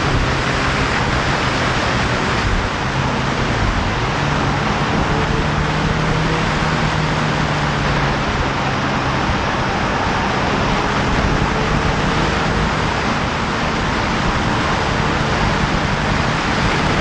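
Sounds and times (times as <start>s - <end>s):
motorcycle engine: 0.0s - 17.0s
wind rushing over microphone: 0.0s - 17.0s.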